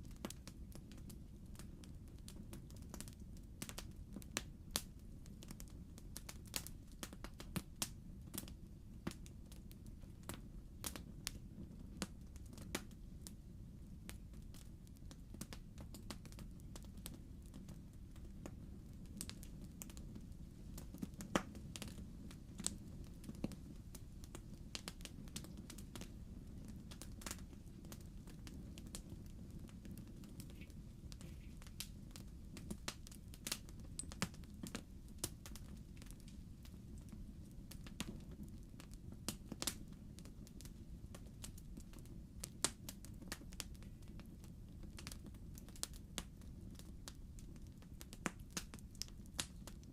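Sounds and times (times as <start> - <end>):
logs crackling in fireplace: 0.0 - 49.9
low rumble of fire: 0.0 - 49.9.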